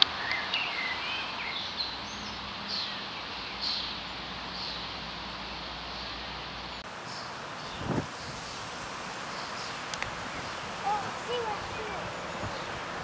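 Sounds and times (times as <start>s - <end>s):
birds chirping: 0.0s - 13.0s
steady outdoor hiss: 0.0s - 13.0s.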